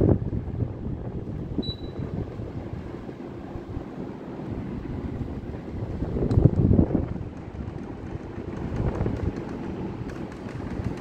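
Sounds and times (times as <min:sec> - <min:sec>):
air conditioner airflow rush: 0:00.0 - 0:11.0
air conditioner louver fault noise: 0:00.0 - 0:11.0.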